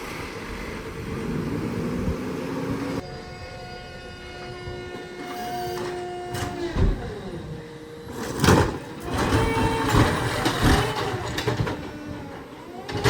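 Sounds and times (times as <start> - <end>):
hydraulic whine: 0.0 - 13.0.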